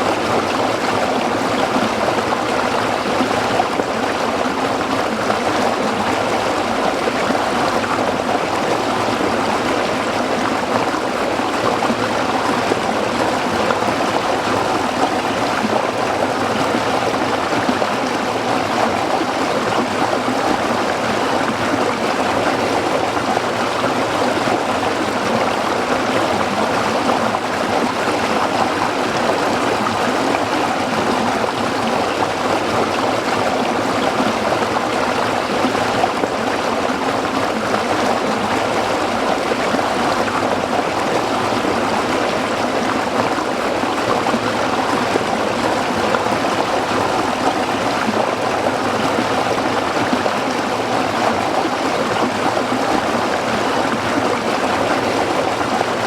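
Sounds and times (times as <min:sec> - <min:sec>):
stream water flowing over rocks: 0:00.0 - 0:56.0.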